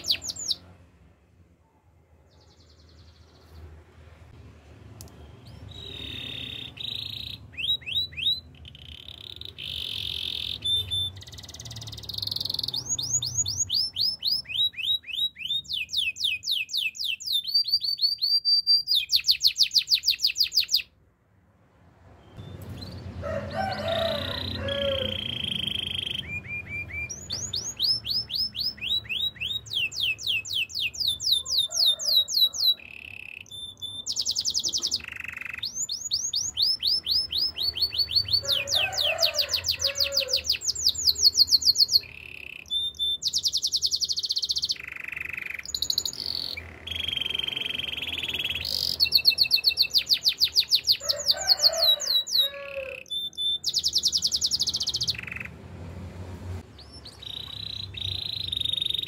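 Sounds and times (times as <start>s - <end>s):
canary singing trills: 0.0s - 0.8s, 5.0s - 21.0s, 22.2s - 55.6s, 56.6s - 59.0s.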